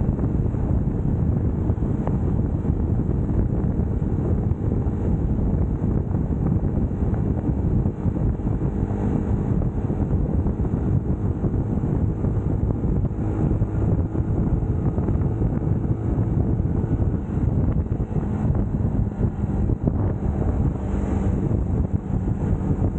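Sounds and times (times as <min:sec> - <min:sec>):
motorcycle engine cruising: 0:00.0 - 0:22.9
wind rush on microphone: 0:00.0 - 0:22.9.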